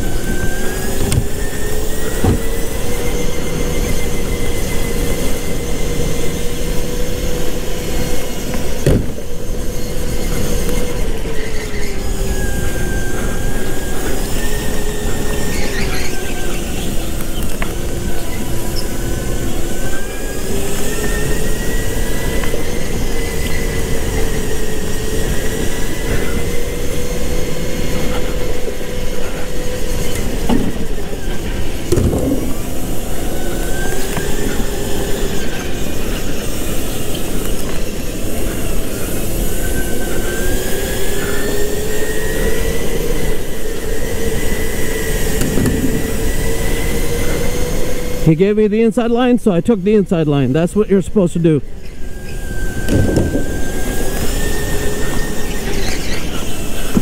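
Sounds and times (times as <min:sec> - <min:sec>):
go-kart motor whining: 0:00.0 - 0:57.0.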